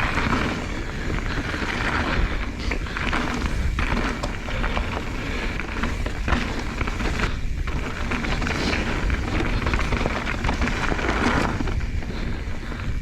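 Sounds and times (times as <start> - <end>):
bike rattles and knocks: 0.0 - 13.0
bike tyres on dirt trail: 0.0 - 13.0
wind rumbling on microphone: 0.0 - 13.0.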